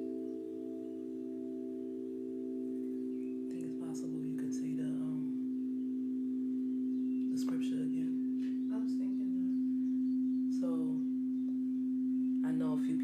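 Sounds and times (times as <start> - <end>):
singing bowl tone: 0.0 - 13.0.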